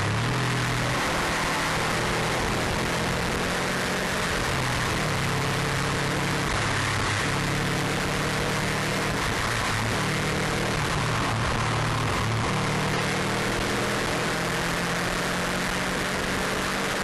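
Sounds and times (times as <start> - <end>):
car engine at speed: 0.0 - 17.0
wind and road noise: 0.0 - 17.0.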